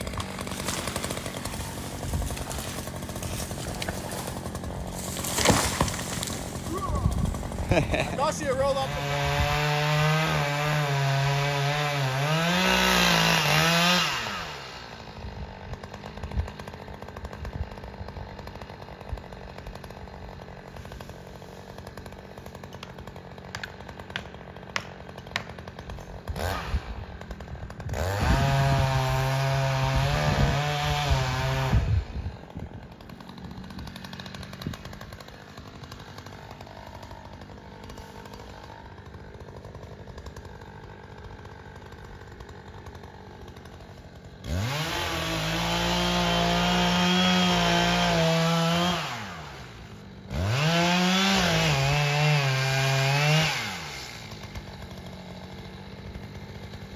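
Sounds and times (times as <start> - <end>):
chainsaw running: 0.0 - 56.9.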